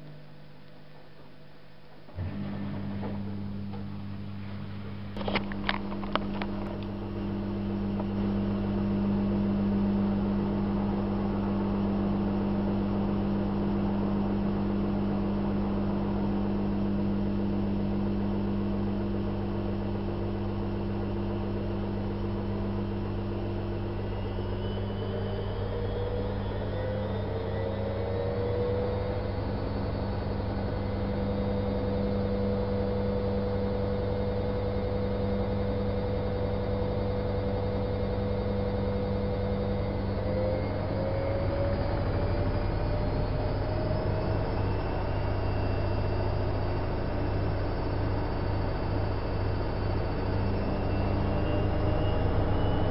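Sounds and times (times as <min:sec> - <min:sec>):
washing machine hum: 0:00.0 - 0:52.9
washing machine motor whine: 0:01.4 - 0:52.9.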